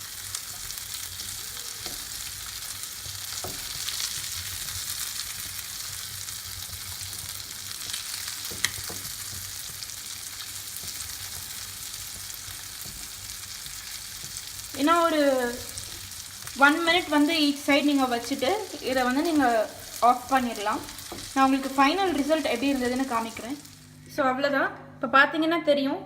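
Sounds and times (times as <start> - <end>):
fish sizzling in oil: 0.0 - 23.9.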